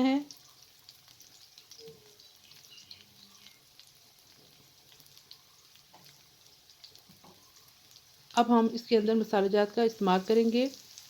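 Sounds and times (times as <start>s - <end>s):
potatoes frying in oil: 0.0s - 11.0s.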